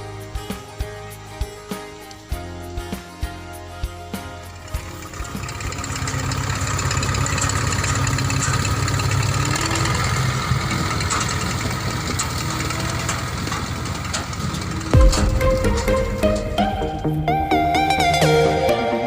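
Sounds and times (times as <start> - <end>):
vehicle engine running: 0.0 - 18.7.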